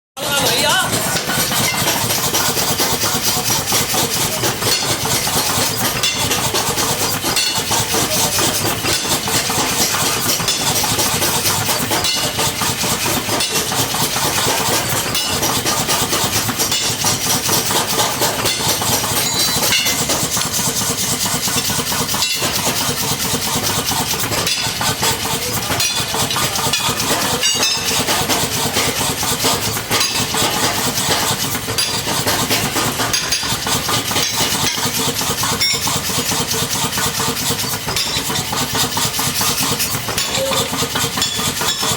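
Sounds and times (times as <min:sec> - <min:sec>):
engine running: 0:00.2 - 0:41.9
mechanical power hammer knocking: 0:00.4 - 0:41.9.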